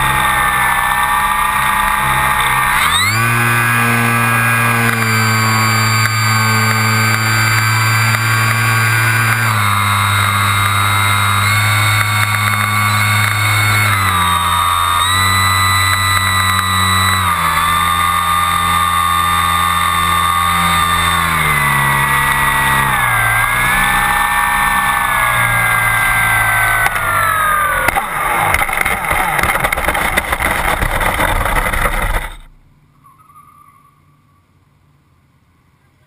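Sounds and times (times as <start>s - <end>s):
model airplane motor and propeller: 0.0s - 32.5s
model airplane rattling over dirt: 0.0s - 32.5s.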